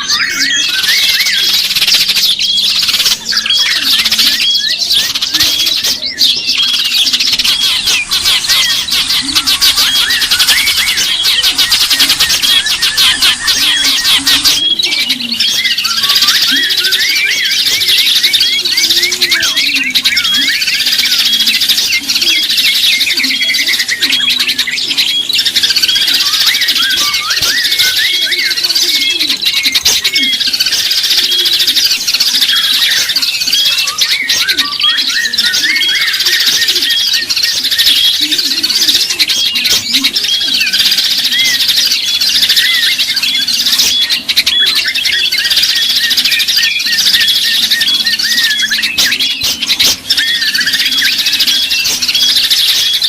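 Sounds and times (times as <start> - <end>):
lower wavering bird calls: 0.0 - 53.0
songbirds chirping and twittering: 0.0 - 53.0.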